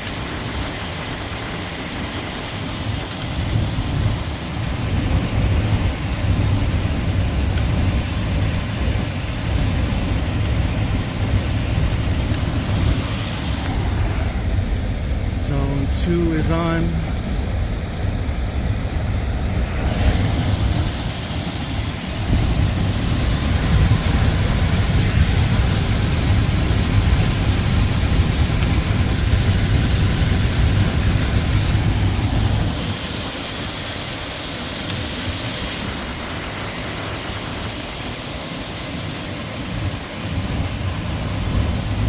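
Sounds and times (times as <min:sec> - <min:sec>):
air handler blower rushing: 0:02.6 - 0:42.0.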